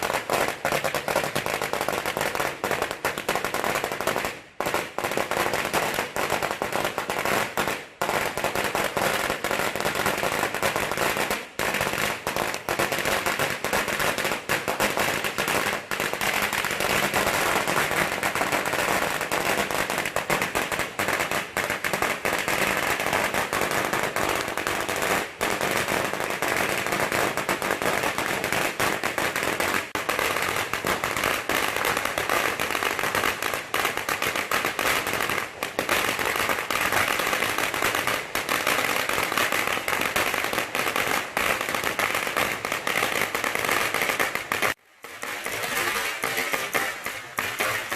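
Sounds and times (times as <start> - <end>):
firecrackers crackling: 0.0 - 47.9.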